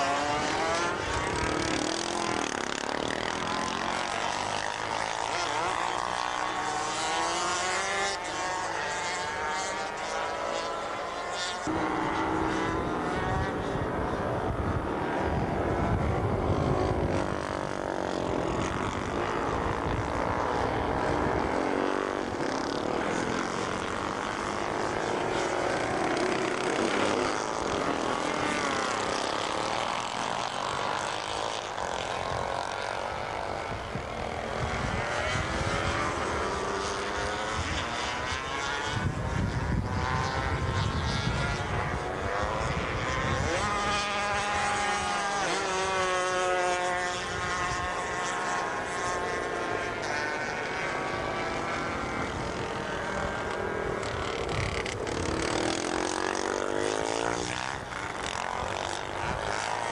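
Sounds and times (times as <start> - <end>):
racing motorcycle engines passing: 0.0 - 59.9.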